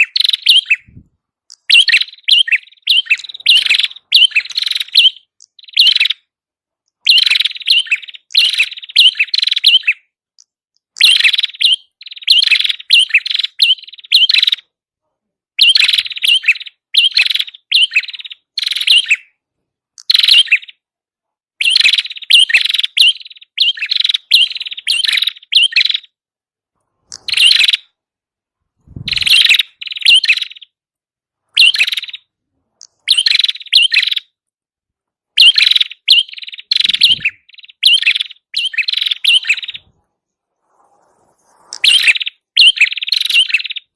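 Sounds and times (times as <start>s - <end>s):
bird chirping and trilling: 0.0s - 14.8s, 15.6s - 19.4s, 20.0s - 20.9s, 21.6s - 26.2s, 27.0s - 28.0s, 28.8s - 30.8s, 31.5s - 34.4s, 35.3s - 43.9s.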